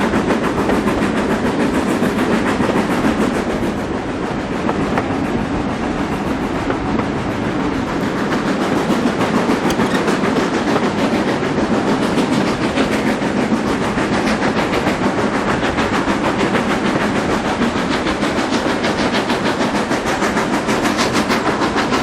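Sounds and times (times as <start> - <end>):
steam train rumbling: 0.0 - 22.0.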